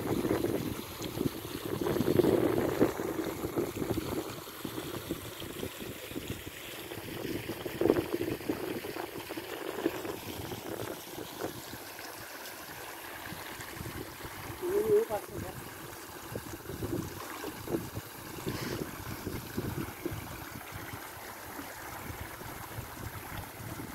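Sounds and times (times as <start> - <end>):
stream trickling over rocks: 0.0 - 23.9.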